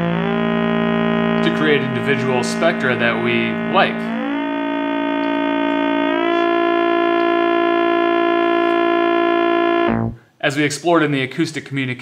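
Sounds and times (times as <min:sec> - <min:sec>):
synthesizer drone: 0:00.0 - 0:10.2.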